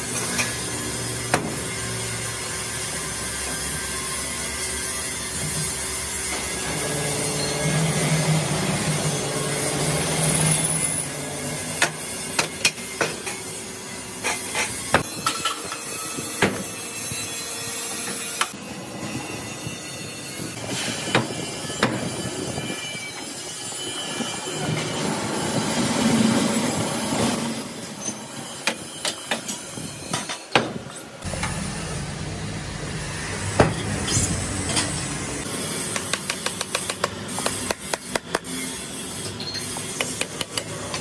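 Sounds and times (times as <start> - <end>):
steady workshop noise: 0.0 - 41.0.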